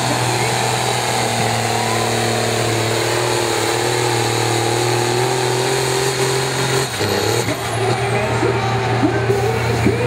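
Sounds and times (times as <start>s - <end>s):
tractor diesel engine at full load: 0.0s - 10.0s.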